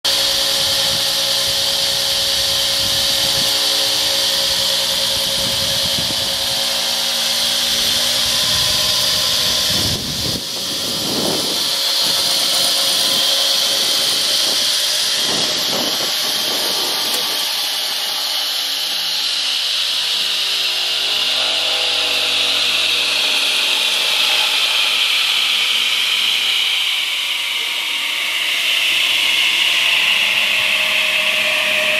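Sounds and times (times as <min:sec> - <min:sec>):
radial arm saw whining: 0:00.0 - 0:31.9.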